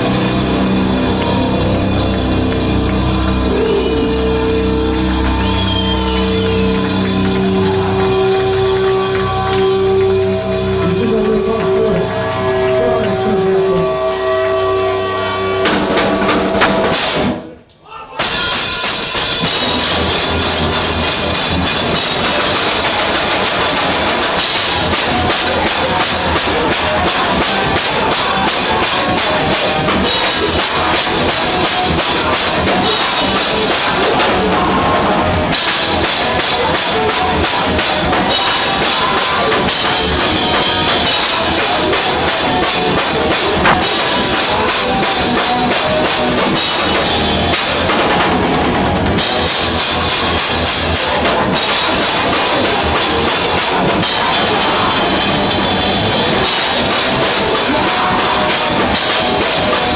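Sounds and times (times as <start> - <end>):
drum kit with cymbals: 0.0 - 17.6, 18.2 - 59.9
electric guitar: 0.0 - 17.6, 18.2 - 59.9
bass guitar: 0.0 - 59.9.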